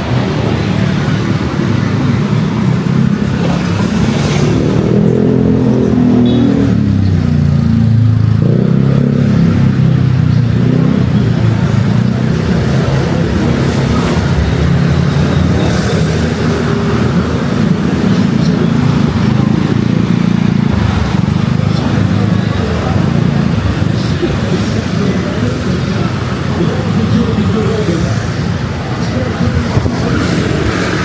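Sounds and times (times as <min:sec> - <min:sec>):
cars and motorbikes passing: 0:00.0 - 0:31.0.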